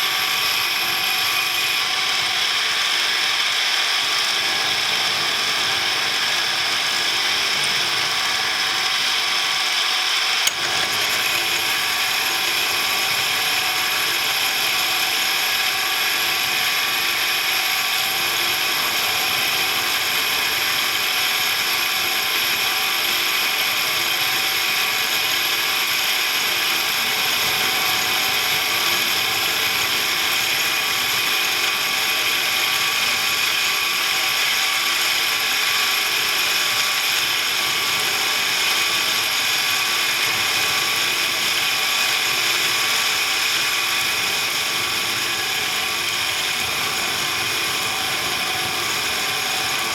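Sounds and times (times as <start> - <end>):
machine tool whining: 0.0 - 49.9.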